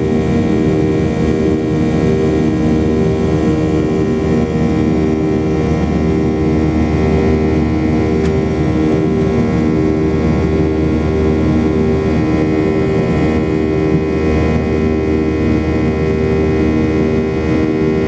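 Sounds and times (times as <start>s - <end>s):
jet engine cabin drone: 0.0s - 18.0s.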